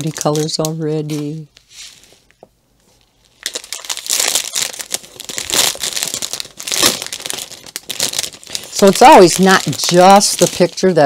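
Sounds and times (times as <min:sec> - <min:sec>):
plastic bags crinkling: 0:00.0 - 0:01.5, 0:03.2 - 0:11.0.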